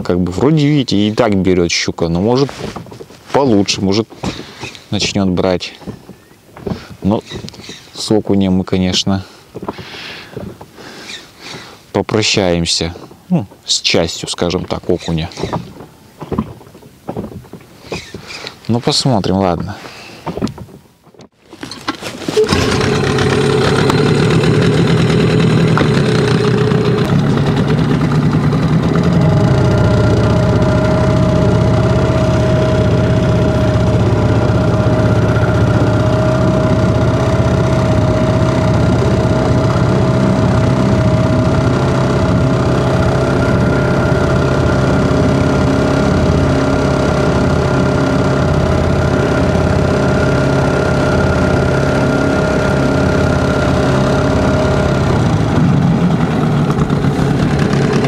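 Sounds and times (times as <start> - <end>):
outboard motor running: 0.0 - 18.7, 21.6 - 58.0.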